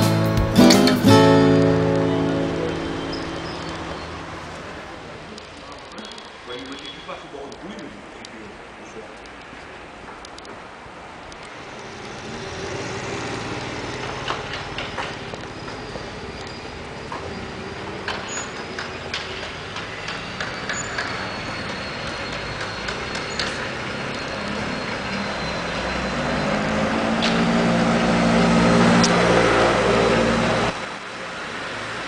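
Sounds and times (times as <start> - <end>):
motor vehicle engine: 0.0 - 6.1, 11.4 - 32.0
street traffic noise: 0.0 - 32.0.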